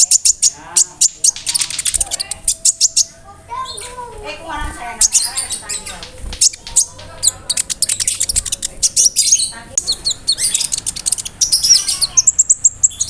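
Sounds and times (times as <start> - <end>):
sunbird singing: 0.0 - 13.0.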